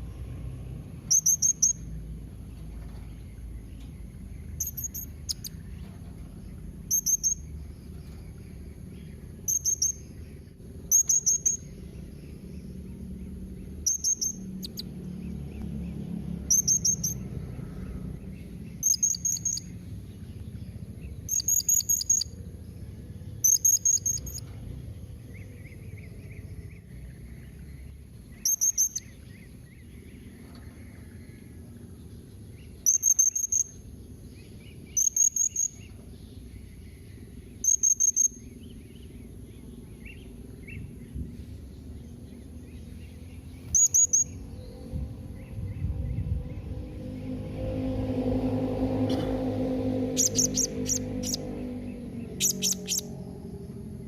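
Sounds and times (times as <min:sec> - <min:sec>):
low background rumble: 0:00.0 - 0:32.9, 0:35.7 - 0:54.0.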